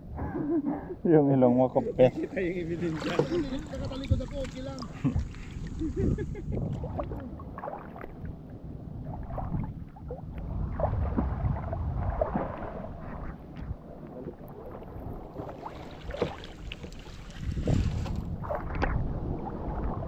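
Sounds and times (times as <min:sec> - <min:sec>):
water splashing against boat: 0:01.8 - 0:20.0
wind rumbling on microphone: 0:01.8 - 0:20.0.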